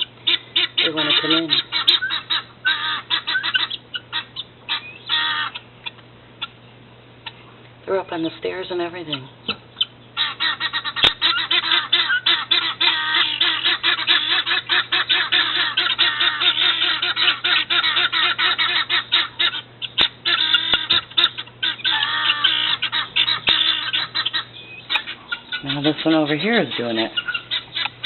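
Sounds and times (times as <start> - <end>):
guinea fowl harsh chatter: 0.0 - 28.0.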